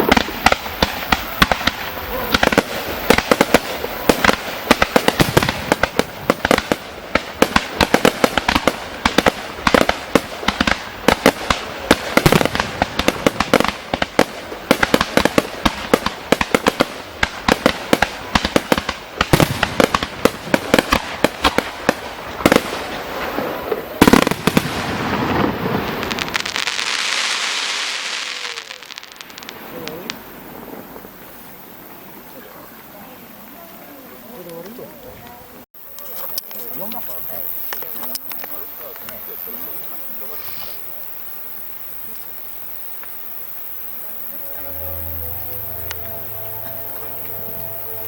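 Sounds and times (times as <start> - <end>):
firework crackling hiss: 0.0 - 48.0.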